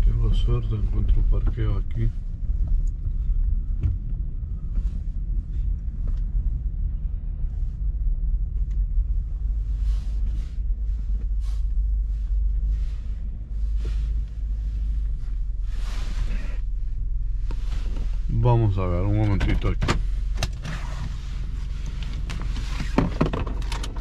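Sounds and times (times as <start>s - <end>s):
engine and road rumble: 0.0s - 24.0s.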